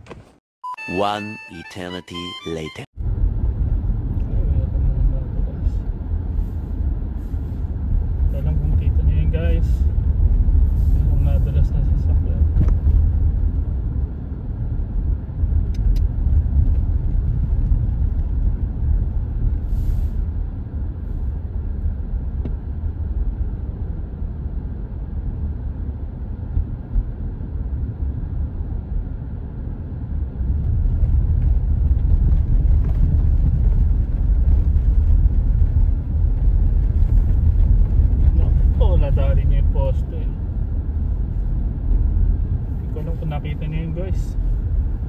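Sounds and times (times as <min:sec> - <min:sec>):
car driving rumble from inside: 0:02.9 - 0:45.0.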